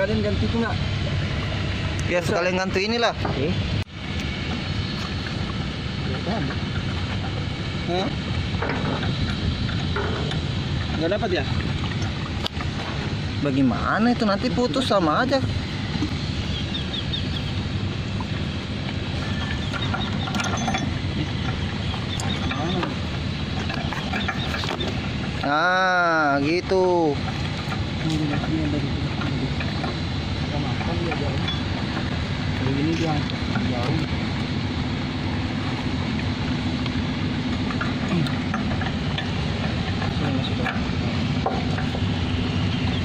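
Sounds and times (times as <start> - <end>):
boat engine rumble: 0.0 - 43.0.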